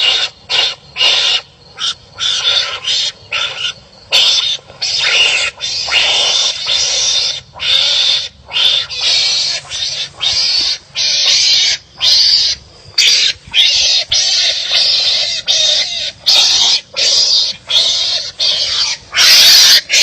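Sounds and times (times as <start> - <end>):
animals harsh raspy barking: 0.0 - 20.0.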